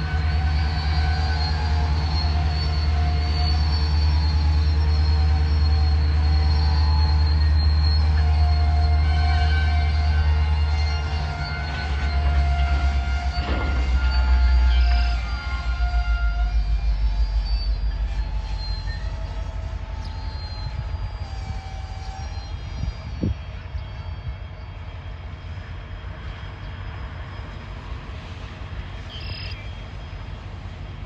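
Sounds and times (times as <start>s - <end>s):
train rumble: 0.0s - 31.0s
train wheel squeals: 0.0s - 31.0s.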